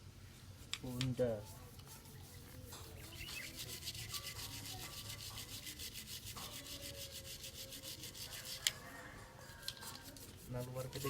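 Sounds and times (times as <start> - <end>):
stiff brush scrubbing metal: 0.8 - 11.0.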